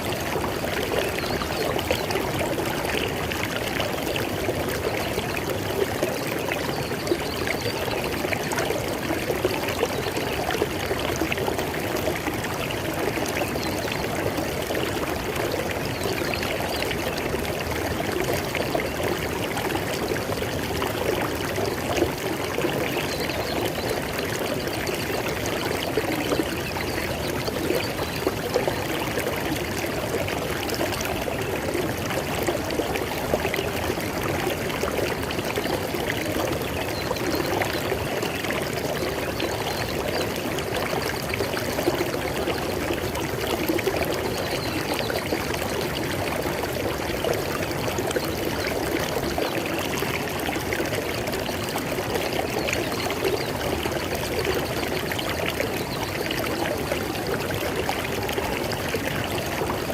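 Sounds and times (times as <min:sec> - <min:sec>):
river water gurgling over rocks: 0:00.0 - 0:59.9.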